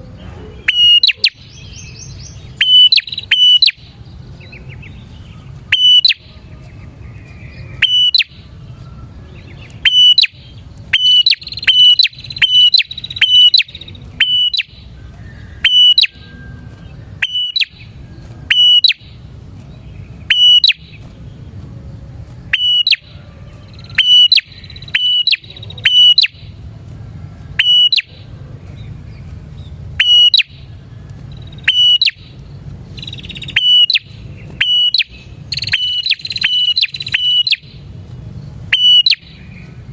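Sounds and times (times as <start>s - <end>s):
bird calling sharp notes: 0.0s - 21.6s, 22.4s - 26.8s, 27.5s - 28.9s, 29.5s - 39.9s
buzzy bird trill: 0.0s - 21.7s, 22.4s - 26.7s, 27.5s - 39.9s.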